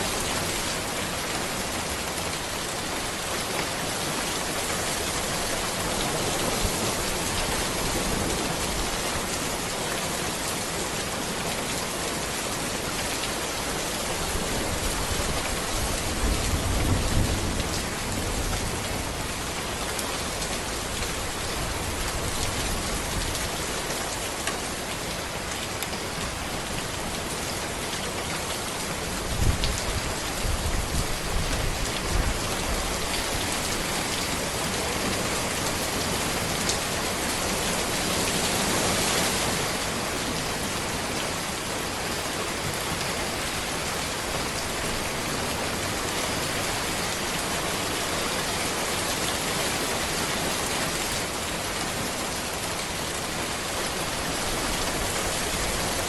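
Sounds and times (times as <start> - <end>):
rain falling on road and trees: 0.0 - 56.0.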